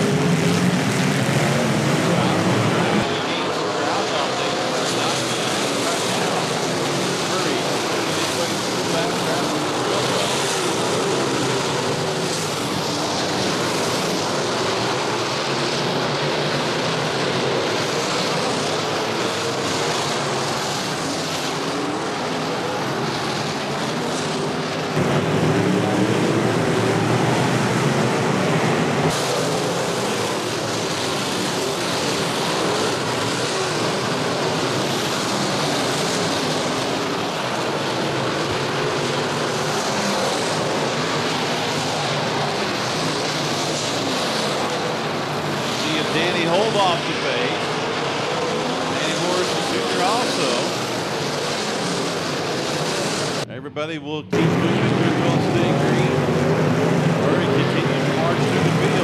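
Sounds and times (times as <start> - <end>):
race car engines running hard: 0.0 - 59.0.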